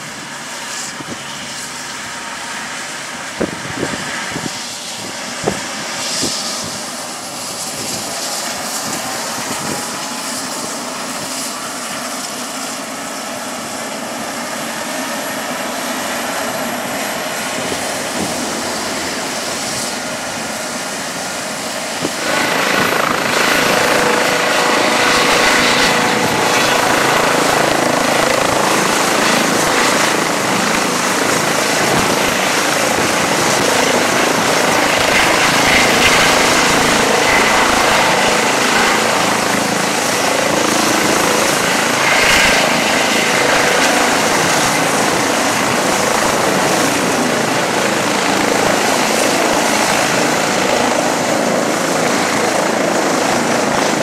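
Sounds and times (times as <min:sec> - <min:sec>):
helicopter engines and rotor: 0:00.0 - 0:54.0.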